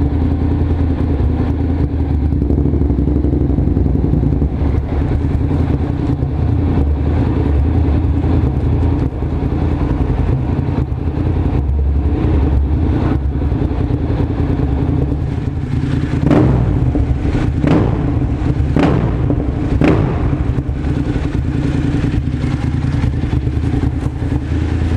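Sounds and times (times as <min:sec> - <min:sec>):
motorcycle engine idling: 0:00.0 - 0:24.9
motorcycle engine throttle blips: 0:00.0 - 0:24.9.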